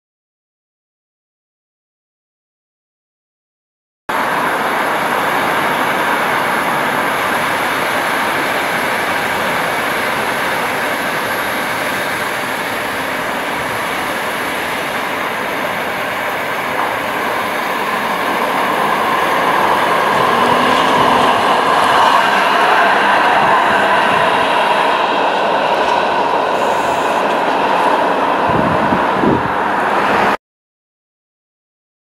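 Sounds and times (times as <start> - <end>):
road traffic: 4.1 - 30.4
tram running on rails: 4.1 - 30.4.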